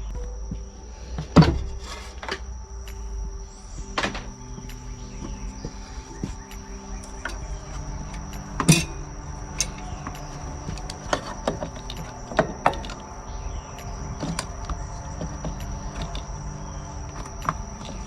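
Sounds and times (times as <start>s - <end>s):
high-pitched drone: 0.0s - 18.0s.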